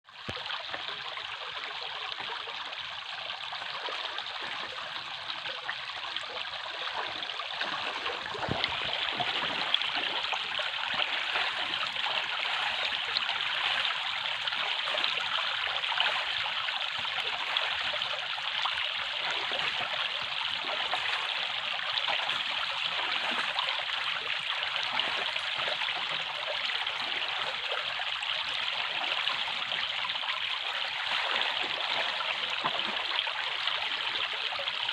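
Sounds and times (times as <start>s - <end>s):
running water stream: 0.1s - 34.9s.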